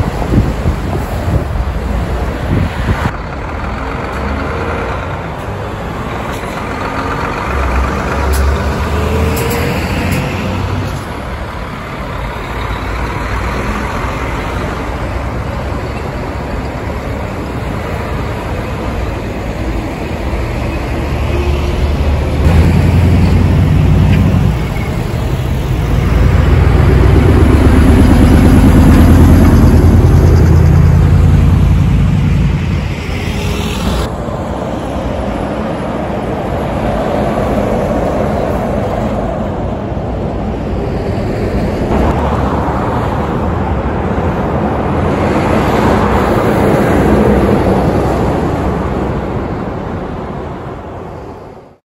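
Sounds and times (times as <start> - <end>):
diesel trucks passing: 0.0 - 51.8.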